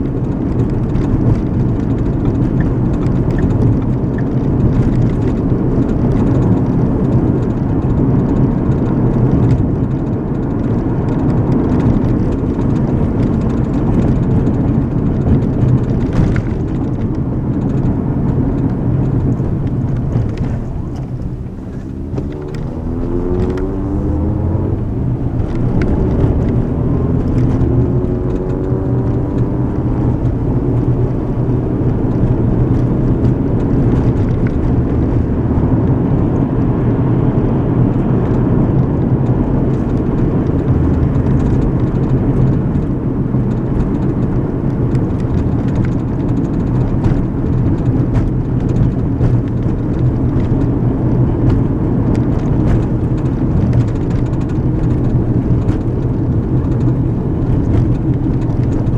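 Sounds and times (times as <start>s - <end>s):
car engine accelerating: 0.0s - 58.9s
car interior road noise: 0.0s - 58.9s.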